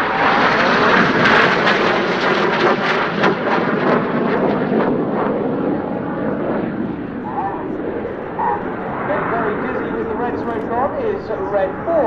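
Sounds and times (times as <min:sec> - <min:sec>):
jet roar with crackle: 0:00.0 - 0:12.0.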